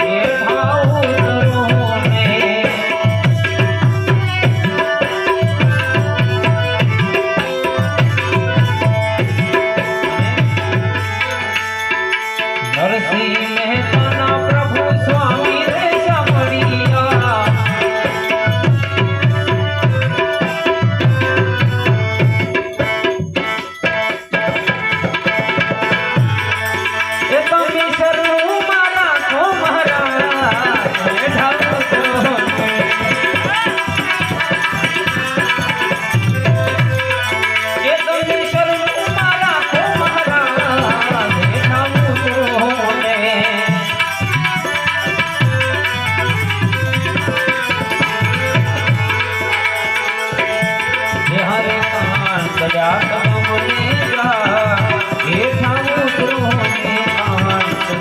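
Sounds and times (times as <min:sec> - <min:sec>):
hand drum rhythm: 0:00.0 - 0:58.0
harmonium melody: 0:00.0 - 0:58.0.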